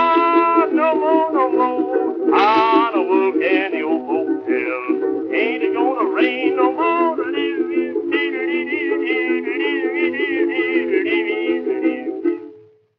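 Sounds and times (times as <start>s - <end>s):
old instrumental record music: 0.0s - 12.9s.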